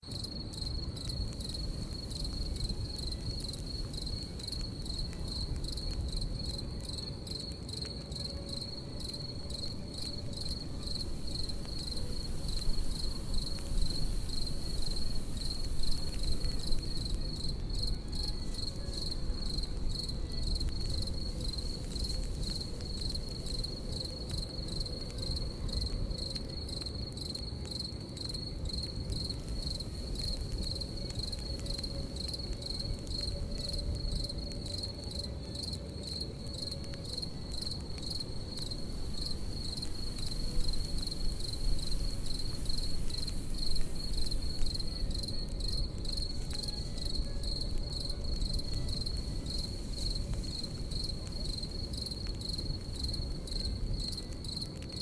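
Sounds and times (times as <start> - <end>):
crickets chirping: 0.0 - 55.0
campfire crackling: 0.1 - 55.0.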